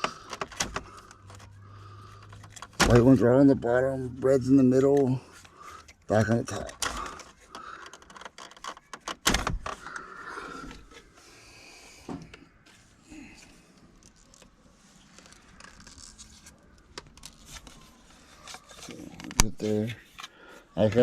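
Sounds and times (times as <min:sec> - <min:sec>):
hands handling small parts: 0:00.0 - 0:03.3, 0:04.8 - 0:11.2, 0:13.4 - 0:21.0.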